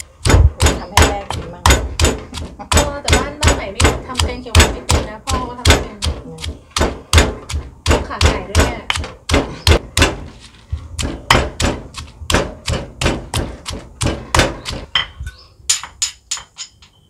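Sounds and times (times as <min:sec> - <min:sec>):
stone pestle thudding in mortar: 0:00.2 - 0:16.6.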